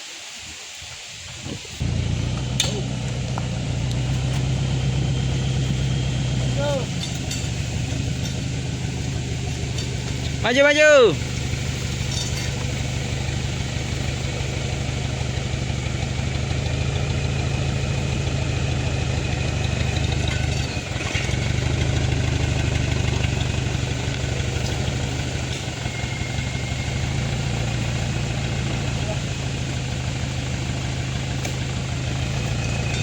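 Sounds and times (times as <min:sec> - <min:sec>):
engine running at low revs: 0:01.8 - 0:33.0.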